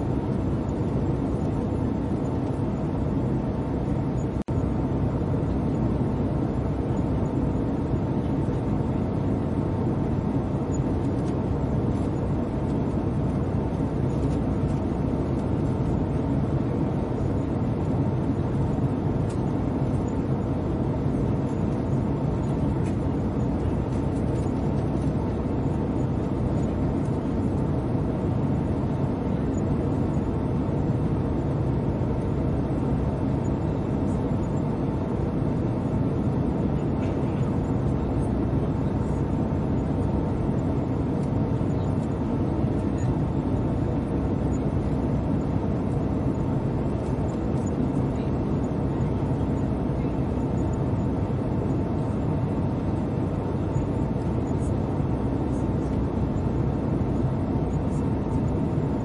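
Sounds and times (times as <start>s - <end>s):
airliner cabin rumble: 0.0s - 59.0s
faint steady hum: 0.0s - 59.0s.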